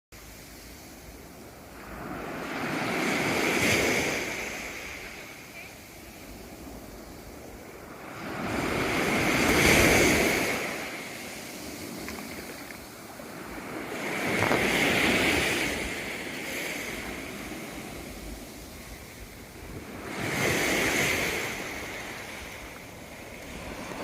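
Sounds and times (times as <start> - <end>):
sea waves washing on shore: 0.2 - 24.0.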